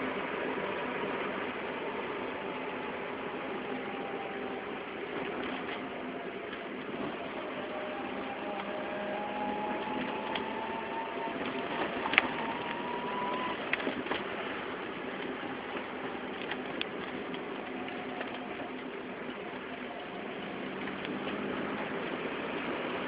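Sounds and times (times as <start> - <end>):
faint whine: 0.0 - 22.7
wheel hub rushing noise: 0.0 - 23.0.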